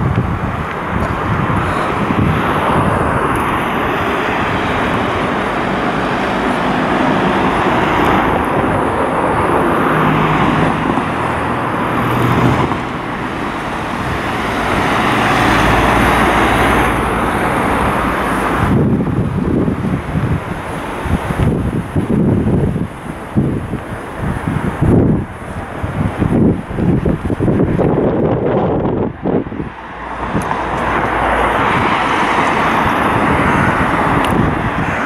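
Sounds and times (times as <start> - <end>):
cars passing: 0.0 - 35.0
low engine hum: 0.0 - 35.0.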